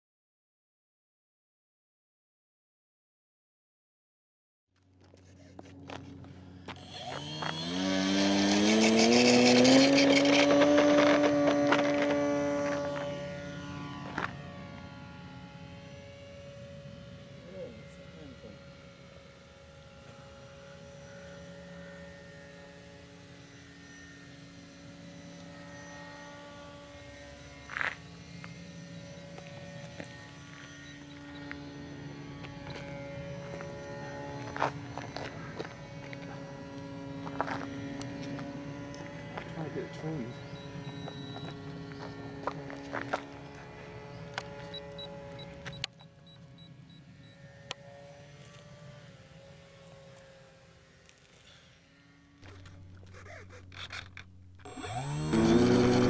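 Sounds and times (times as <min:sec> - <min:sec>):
model plane motor hum: 0:04.8 - 0:56.0.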